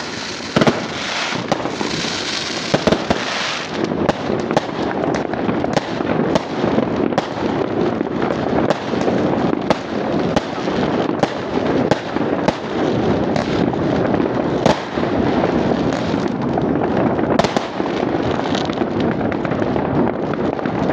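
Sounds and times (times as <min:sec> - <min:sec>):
fireworks exploding: 0:00.0 - 0:20.9
sharp firecracker bangs: 0:00.0 - 0:20.9.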